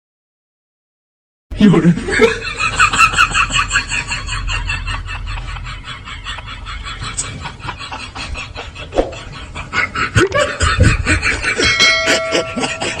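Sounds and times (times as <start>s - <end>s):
laughter: 1.6s - 13.0s.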